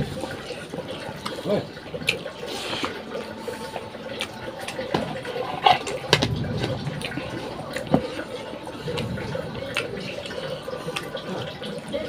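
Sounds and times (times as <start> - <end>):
chewing and lip-smacking: 0.0 - 12.0.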